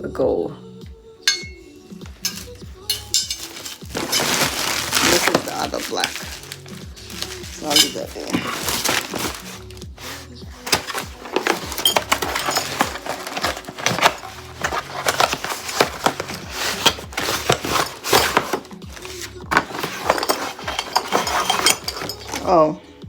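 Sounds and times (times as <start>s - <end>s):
knocks and clicks of handling: 1.3s - 22.4s
packaging rustling: 2.2s - 22.5s.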